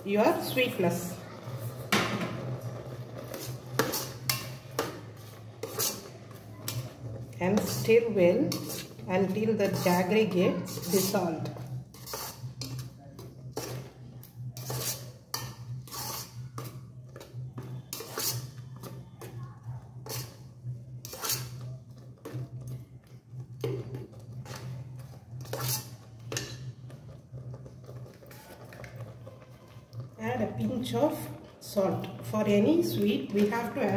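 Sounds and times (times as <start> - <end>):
metal spoon scraping pot: 0.1 - 33.9.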